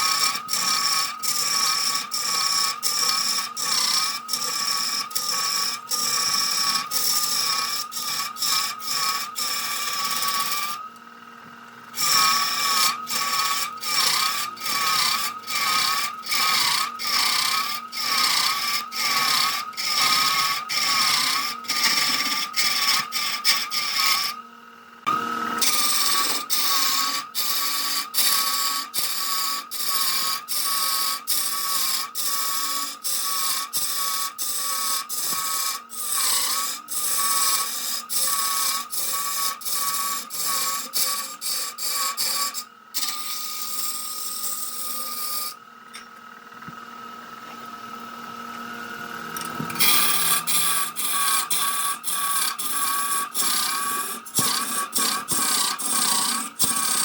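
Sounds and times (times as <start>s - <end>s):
turning tool scraping wood: 0.0s - 10.8s, 11.9s - 24.4s, 25.6s - 45.6s, 49.4s - 57.0s
wood lathe whining: 0.0s - 57.0s.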